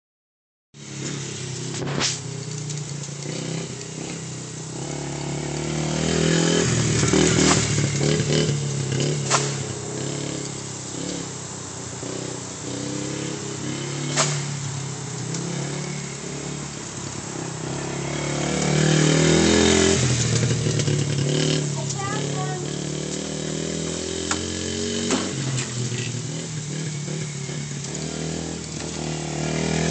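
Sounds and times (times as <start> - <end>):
dirt bike engine running: 0.8 - 29.9.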